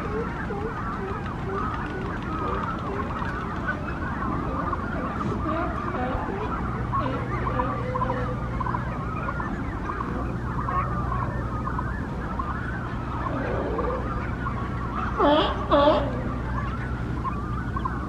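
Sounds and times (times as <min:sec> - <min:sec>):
chorus of cormorant calls: 0:00.0 - 0:18.0
loud bird calls: 0:00.0 - 0:18.0.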